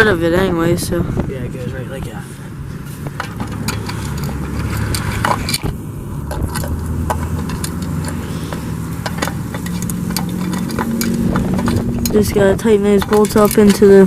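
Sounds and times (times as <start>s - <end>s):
engine-like hum: 0.0s - 14.0s.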